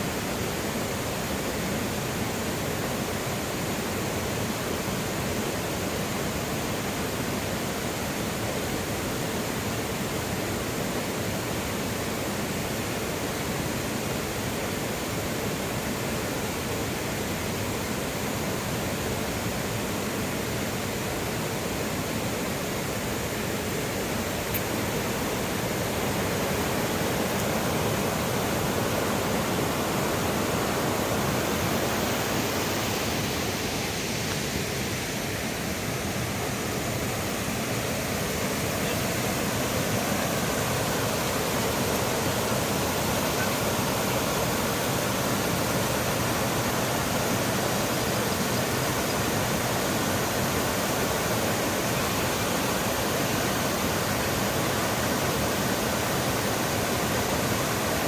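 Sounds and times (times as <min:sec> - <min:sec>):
river rushing over its bed: 0:00.0 - 0:58.0.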